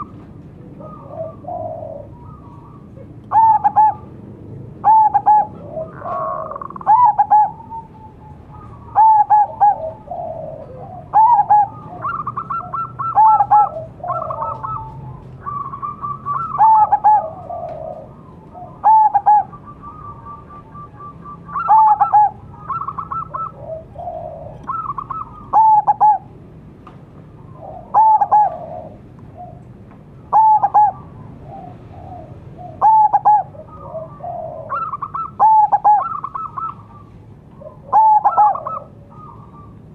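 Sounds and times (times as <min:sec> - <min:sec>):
dove cooing: 0:00.0 - 0:04.2, 0:04.8 - 0:26.3, 0:27.4 - 0:39.9.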